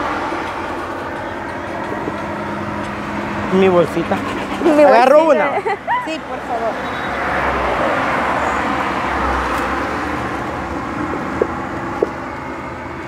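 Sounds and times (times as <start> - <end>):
highway traffic passing: 0.0 - 13.0.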